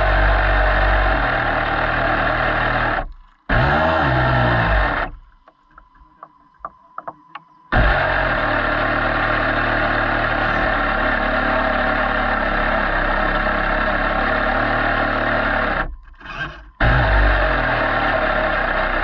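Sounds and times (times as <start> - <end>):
model boat engine running: 0.0 - 5.2, 7.7 - 19.0.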